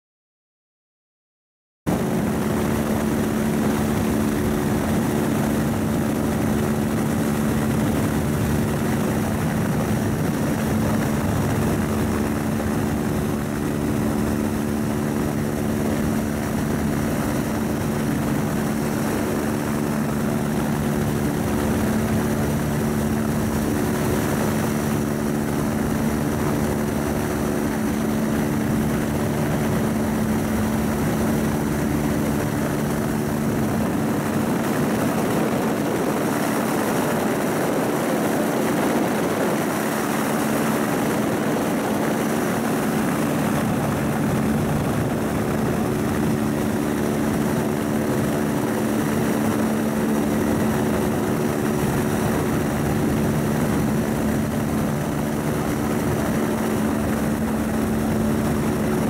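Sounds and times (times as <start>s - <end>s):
helicopter hovering: 1.9s - 59.0s.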